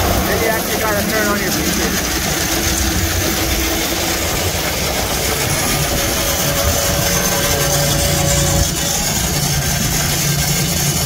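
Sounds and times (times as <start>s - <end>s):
grain auger humming: 0.0s - 11.0s.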